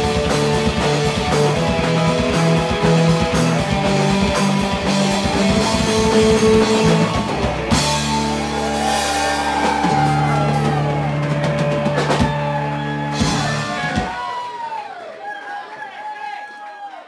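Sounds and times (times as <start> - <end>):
live rock band: 0.0 - 14.4.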